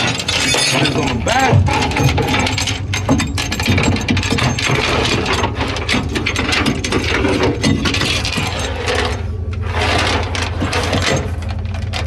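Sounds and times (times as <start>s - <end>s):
tow chains clanking: 0.0s - 12.0s
truck engine idling: 0.0s - 12.0s.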